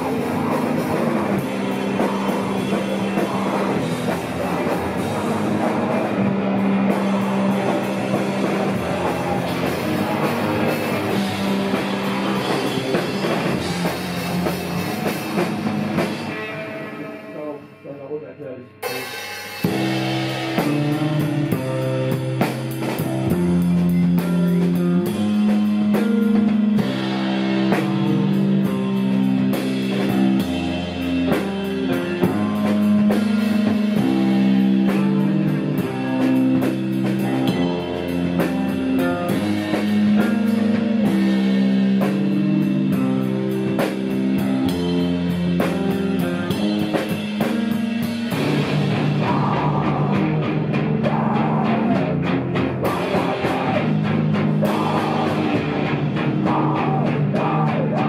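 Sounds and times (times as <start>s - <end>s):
bass guitar: 0.0s - 58.0s
drum kit beats: 0.0s - 58.0s
electric guitar: 0.0s - 58.0s.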